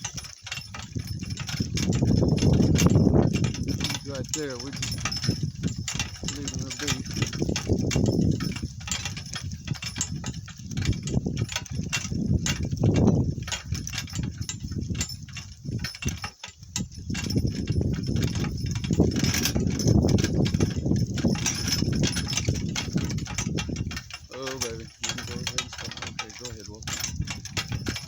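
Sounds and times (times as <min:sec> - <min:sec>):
cart rattling and knocking: 0:00.0 - 0:28.0
donkey hoofbeats: 0:00.0 - 0:28.0.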